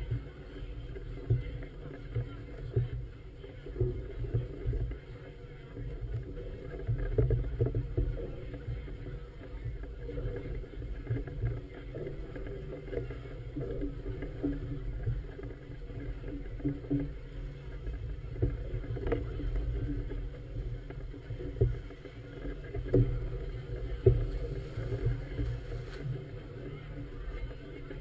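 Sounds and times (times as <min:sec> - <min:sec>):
muffled wind and water rumble: 0:00.0 - 0:28.0.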